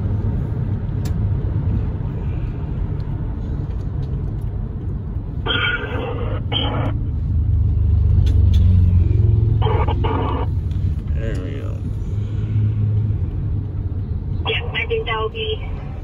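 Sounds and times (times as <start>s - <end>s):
car driving rumble from inside: 0.0s - 16.0s.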